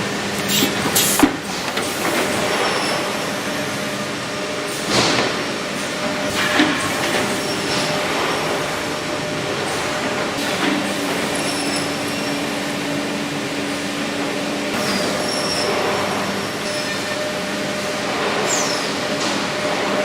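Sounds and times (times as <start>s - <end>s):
wood-processing machinery running: 0.0s - 20.0s.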